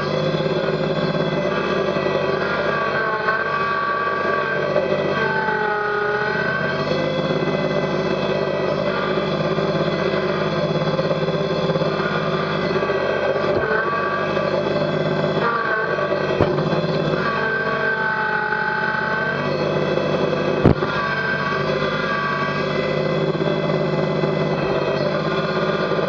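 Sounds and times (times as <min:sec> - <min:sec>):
hydraulic whine: 0:00.0 - 0:26.0
tractor diesel engine running: 0:00.0 - 0:26.0.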